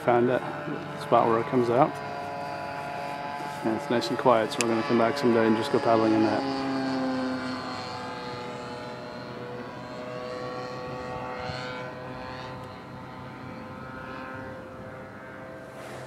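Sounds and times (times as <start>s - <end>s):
model airplane engine whining: 0.0s - 16.0s.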